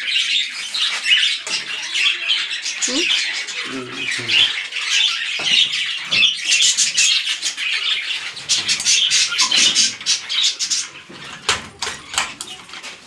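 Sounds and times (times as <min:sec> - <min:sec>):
parakeets squawking: 0:00.0 - 0:12.8.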